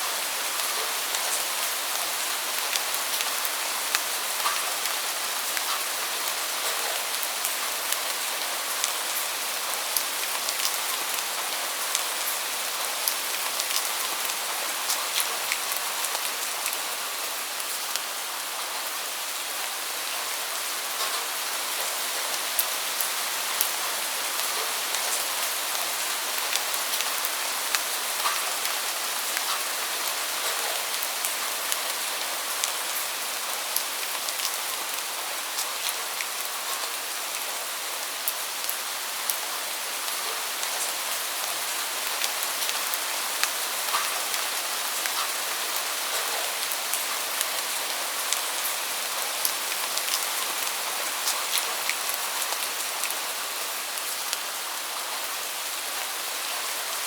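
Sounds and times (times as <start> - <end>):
steady rain with drop ticks: 0.0 - 57.0.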